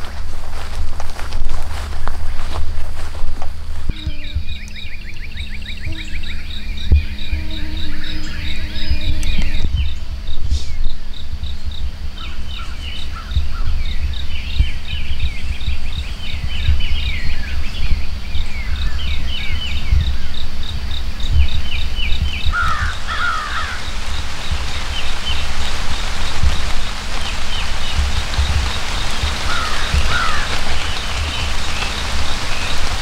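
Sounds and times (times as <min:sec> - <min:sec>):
high pulsing insect trill: 0:00.0 - 0:33.0
low rumble with bumps: 0:00.0 - 0:33.0
songbirds chirping: 0:00.0 - 0:33.0
loud bird call: 0:03.9 - 0:33.0.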